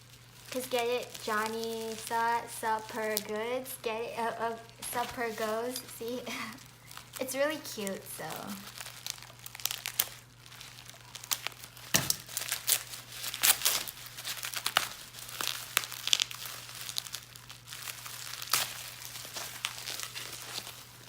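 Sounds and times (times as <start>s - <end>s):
packing material crinkling: 0.0s - 21.0s.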